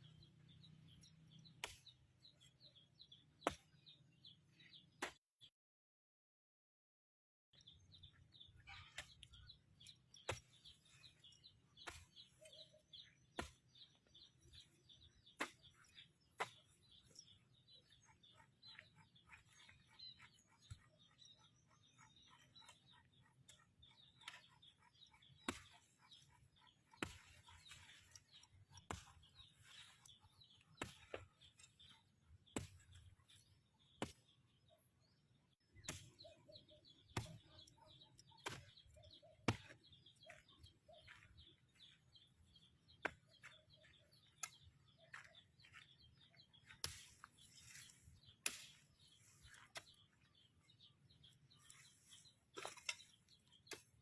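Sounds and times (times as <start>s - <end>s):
rapid bird chirping: 0.0s - 5.0s, 7.6s - 54.0s.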